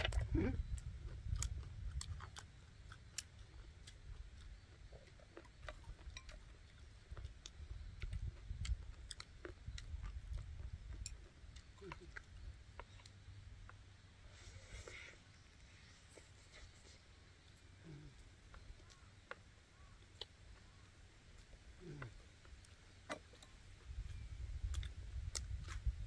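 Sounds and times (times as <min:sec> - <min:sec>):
people chewing: 0:00.0 - 0:26.0.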